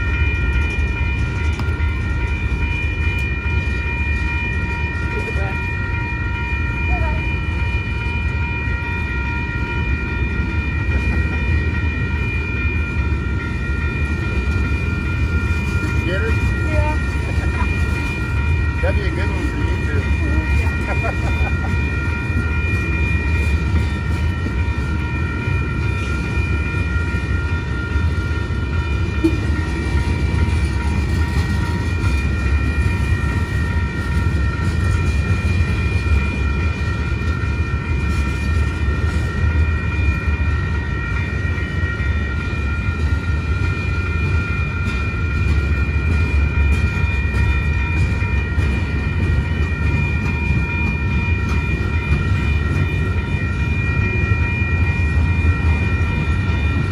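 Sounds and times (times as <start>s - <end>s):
high-pitched ringing tones: 0.0s - 56.9s
train wheels rumbling on rail: 0.0s - 56.9s.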